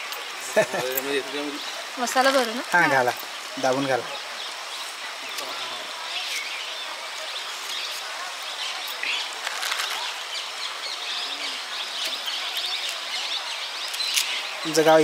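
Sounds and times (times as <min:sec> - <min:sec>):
birds chirping: 0:00.0 - 0:15.0
steady outdoor hiss: 0:00.0 - 0:15.0.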